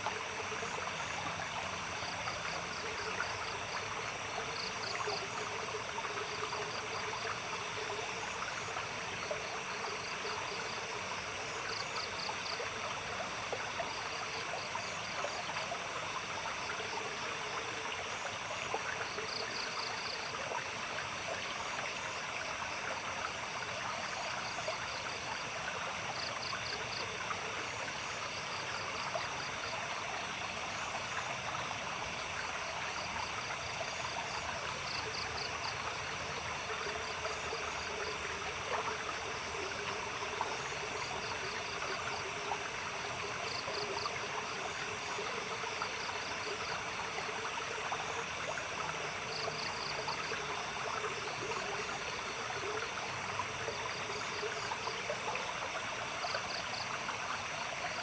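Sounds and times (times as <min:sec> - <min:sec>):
night insects chirring: 0:00.0 - 0:58.0
stream water trickling: 0:00.0 - 0:58.0.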